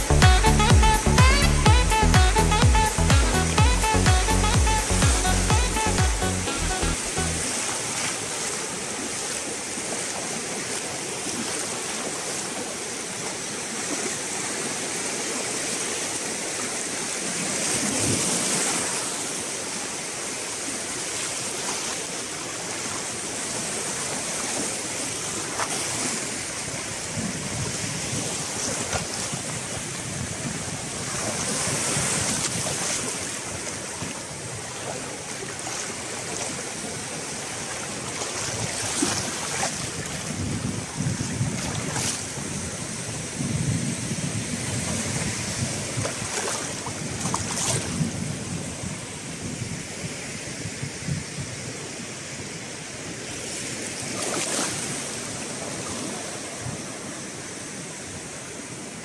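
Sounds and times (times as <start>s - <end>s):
small surf washing in: 7.2s - 59.0s.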